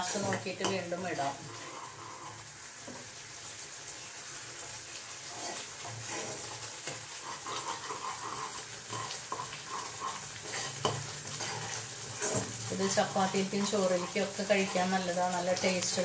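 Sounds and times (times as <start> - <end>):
spoon scraping a pan: 0.0 - 3.1, 5.1 - 16.0
gravy sizzling in a pan: 0.0 - 16.0.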